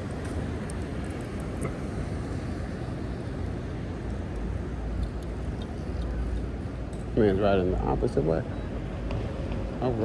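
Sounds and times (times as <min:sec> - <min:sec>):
e-bike tires rolling rumble: 0:00.0 - 0:10.0.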